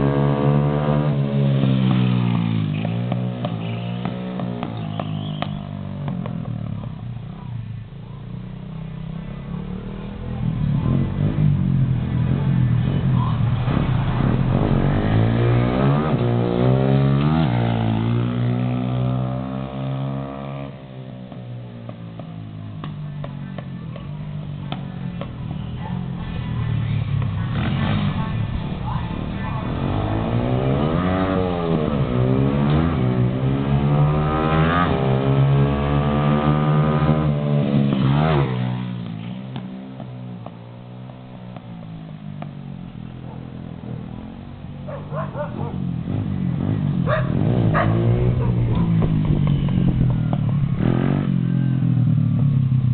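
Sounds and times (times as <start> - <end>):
motorbike engine revving: 0.0 - 6.7, 10.4 - 22.6, 23.2 - 52.9.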